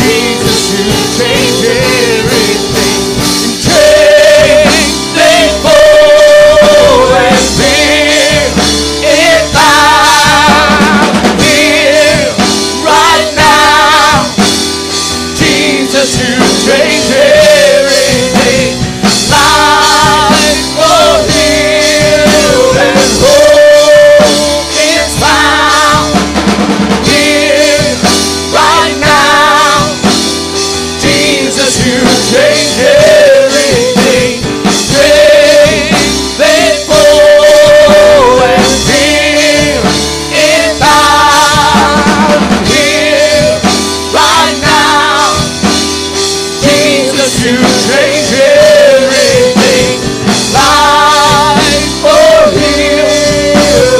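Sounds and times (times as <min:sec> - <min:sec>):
drum kit: 0:00.0 - 0:53.9
keyboard: 0:00.0 - 0:53.9
singers singing gospel: 0:00.0 - 0:53.9.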